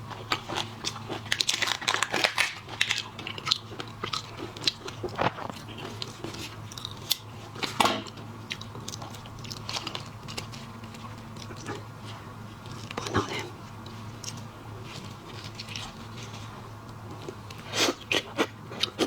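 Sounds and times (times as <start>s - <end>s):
chewing and crunching shellfish: 0.0s - 19.0s.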